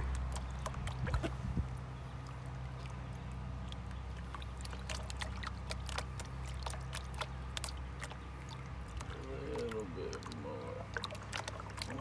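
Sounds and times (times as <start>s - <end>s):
low steady hum: 0.0s - 12.0s
water sloshing in a plastic pan: 0.0s - 12.0s.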